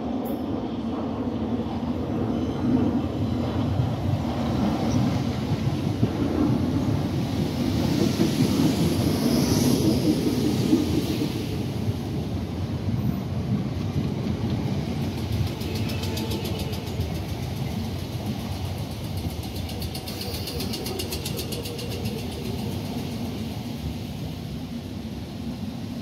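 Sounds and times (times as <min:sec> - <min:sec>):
train wheels rumbling on rails: 0:00.0 - 0:26.0
hissing rush: 0:04.6 - 0:26.0.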